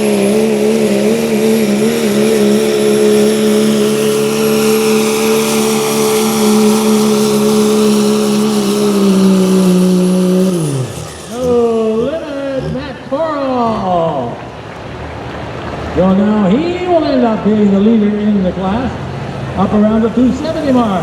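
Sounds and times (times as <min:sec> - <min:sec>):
truck engine at full throttle: 0:00.0 - 0:21.0.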